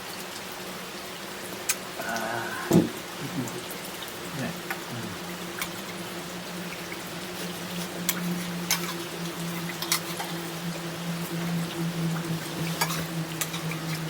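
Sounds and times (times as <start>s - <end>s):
steady rain falling: 0.0s - 14.0s
steady low hum: 1.4s - 14.0s.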